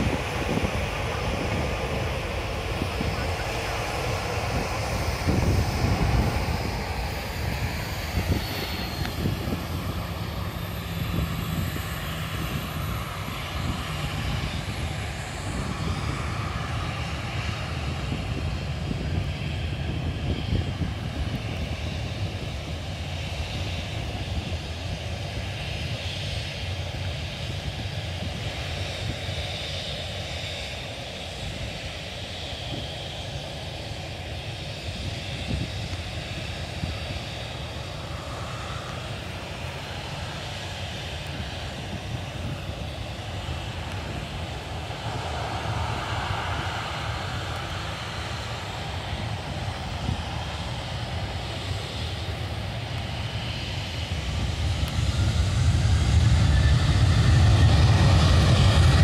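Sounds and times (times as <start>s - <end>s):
faint high engine whine: 0.0s - 59.0s
jet engine rumble: 0.0s - 59.0s.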